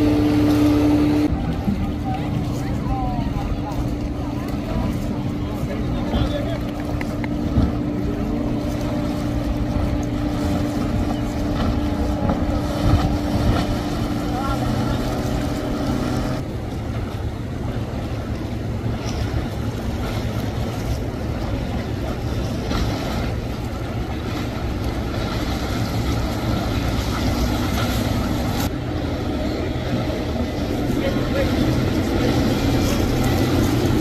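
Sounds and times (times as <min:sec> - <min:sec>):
motorboat engine droning: 0:00.0 - 0:34.0
water rushing: 0:00.0 - 0:34.0.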